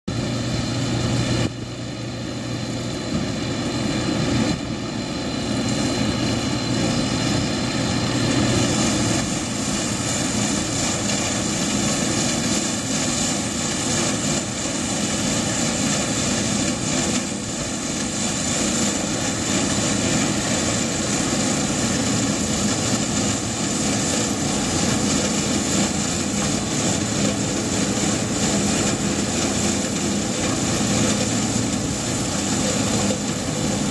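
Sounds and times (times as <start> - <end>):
diesel engine running under load: 0.1 - 33.9.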